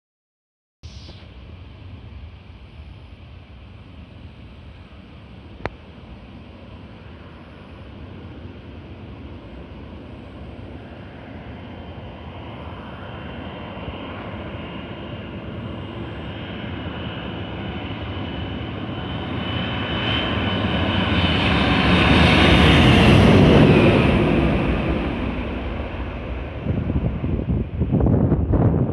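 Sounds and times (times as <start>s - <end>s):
jet airliner passing overhead: 0.8s - 28.9s.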